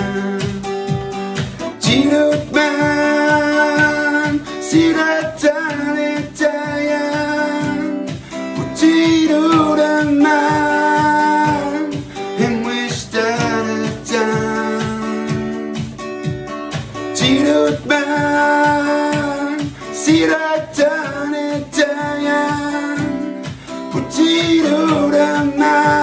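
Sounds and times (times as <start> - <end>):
man singing a slow song: 0.0 - 15.6, 17.1 - 26.0
strummed acoustic guitar: 0.0 - 26.0.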